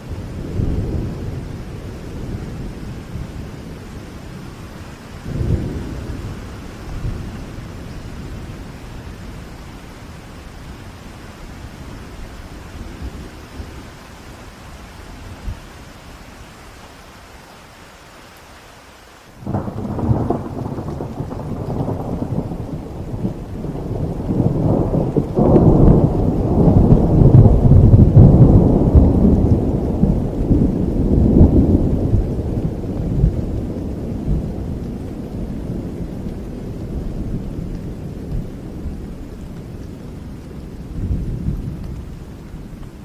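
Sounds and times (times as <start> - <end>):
thunder rumbling: 0.0 - 14.1, 19.4 - 43.0
rain: 0.0 - 43.0.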